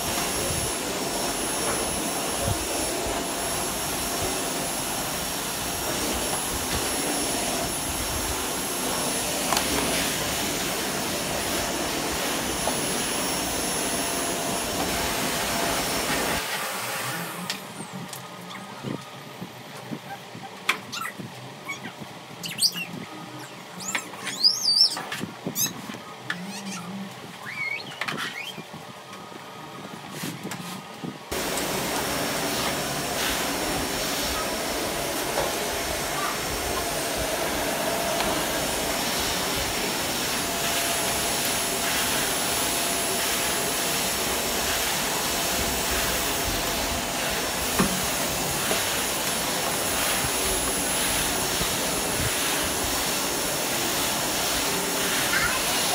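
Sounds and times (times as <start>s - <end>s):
vacuum cleaner running: 0.0s - 20.4s, 29.3s - 55.9s.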